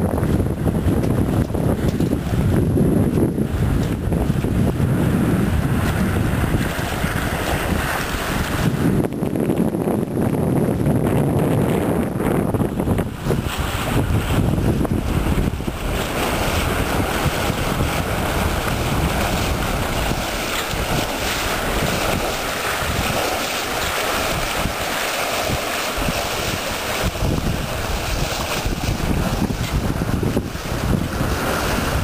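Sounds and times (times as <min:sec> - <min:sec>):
water rushing along hull: 0:00.0 - 0:32.0
wind buffeting microphone: 0:00.0 - 0:32.0.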